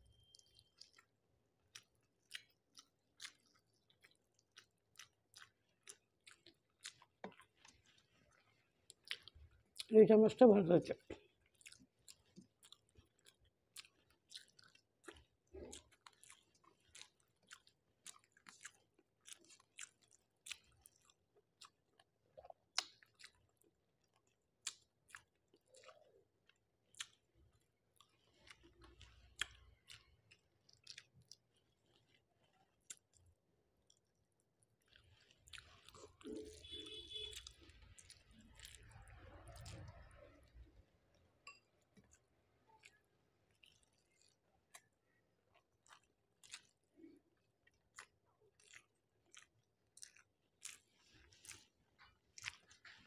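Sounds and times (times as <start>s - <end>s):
chewing mouth clicks: 0.2s - 1.1s, 1.7s - 9.9s, 11.0s - 34.2s, 34.8s - 40.7s, 41.5s - 53.0s.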